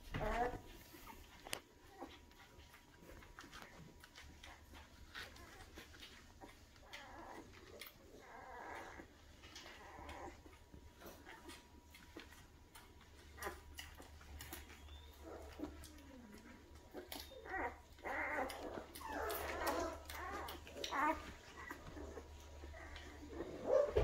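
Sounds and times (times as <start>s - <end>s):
puppies whimpering and squeaking: 0.0s - 24.0s.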